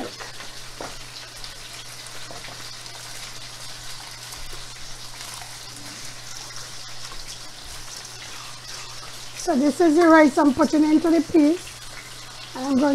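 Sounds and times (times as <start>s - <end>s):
pots sizzling and bubbling: 0.0s - 12.9s.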